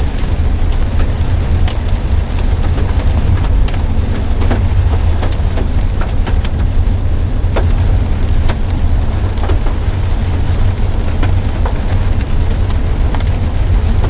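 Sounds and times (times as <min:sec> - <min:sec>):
hail and rain hitting a car: 0:00.0 - 0:14.0
low rumble: 0:00.0 - 0:14.0.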